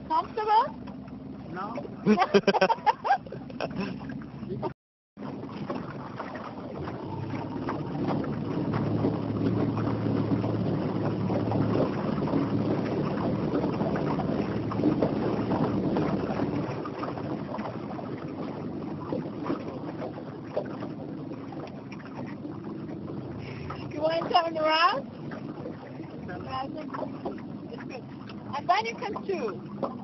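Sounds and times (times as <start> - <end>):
water wash: 0.0 - 30.0
wind on microphone: 5.2 - 30.0.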